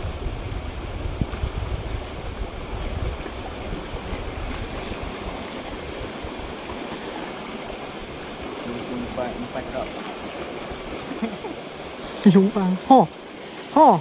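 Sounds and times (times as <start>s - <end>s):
low rumble on microphone: 0.0s - 11.6s
small stream running: 0.0s - 14.0s.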